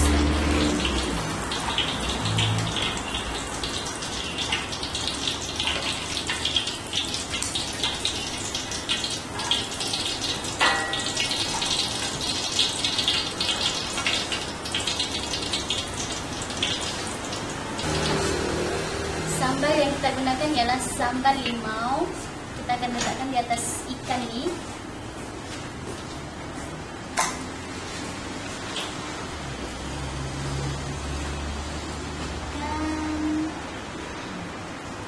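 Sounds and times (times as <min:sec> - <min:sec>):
fish frying in hot oil: 0:00.0 - 0:33.5.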